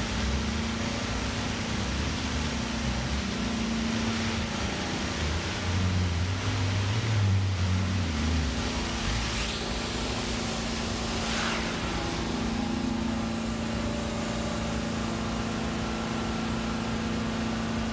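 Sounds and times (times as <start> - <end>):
extraction wand sucking water: 0.0 - 14.4
vacuum machine hum and hiss: 0.0 - 17.9.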